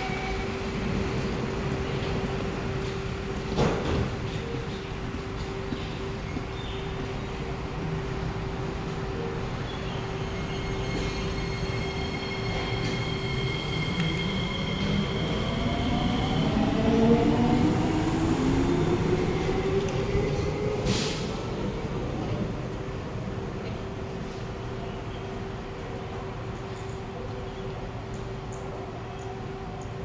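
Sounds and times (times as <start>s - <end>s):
metro train motor whine: 0.0s - 27.2s.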